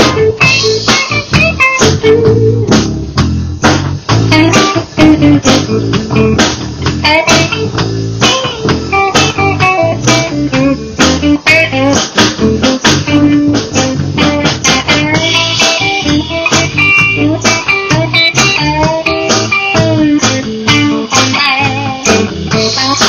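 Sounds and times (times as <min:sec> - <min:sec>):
drum kit: 0:00.0 - 0:23.0
electric bass: 0:00.0 - 0:23.0
electric guitar: 0:00.0 - 0:23.0.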